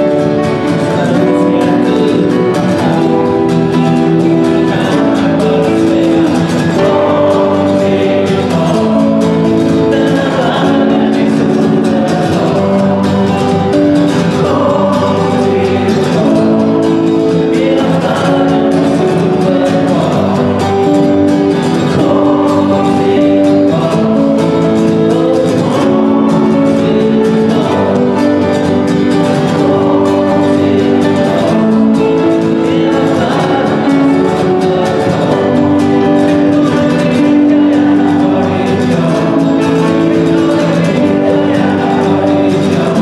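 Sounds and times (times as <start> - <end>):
acoustic guitar strumming: 0.0 - 43.0
choir singing along: 0.0 - 43.0
man singing lead: 0.0 - 43.0.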